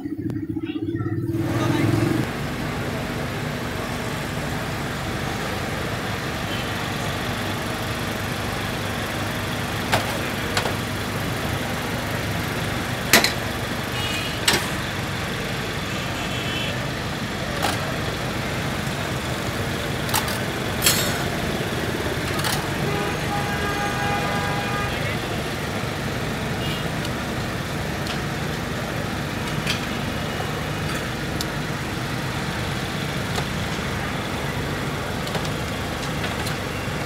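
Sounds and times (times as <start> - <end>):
busy street hum: 0.0 - 37.0
low engine drone: 0.0 - 37.0.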